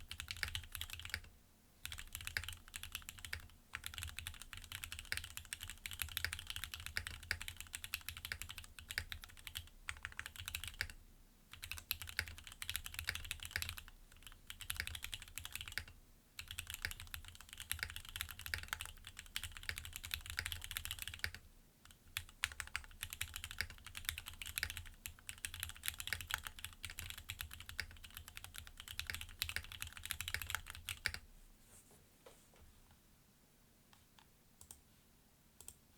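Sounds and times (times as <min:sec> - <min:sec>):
fast typing on mechanical keyboard: 0:00.0 - 0:31.2.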